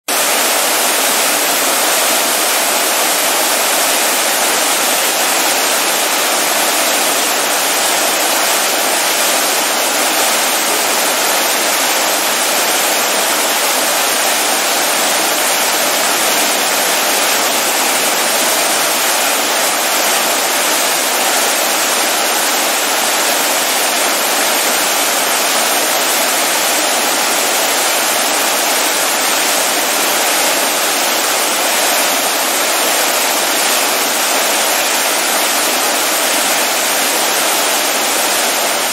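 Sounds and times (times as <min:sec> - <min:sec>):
water fountain splashing: 0:00.1 - 0:38.9.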